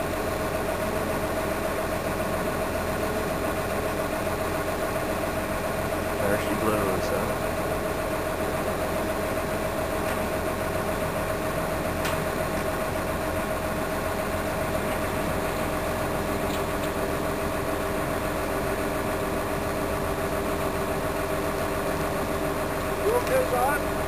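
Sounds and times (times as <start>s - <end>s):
diesel engine running under load: 0.0s - 24.0s.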